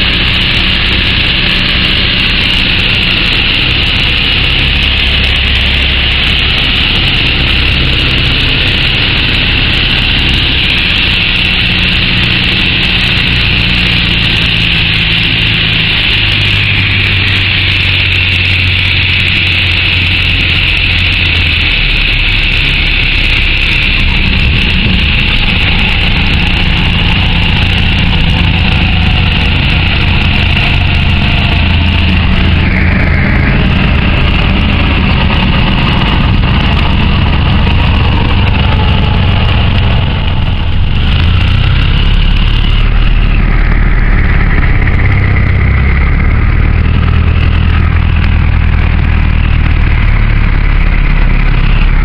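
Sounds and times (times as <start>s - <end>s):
airflow and cabin hiss: 0.0s - 52.0s
plane engine near idle: 0.0s - 52.0s.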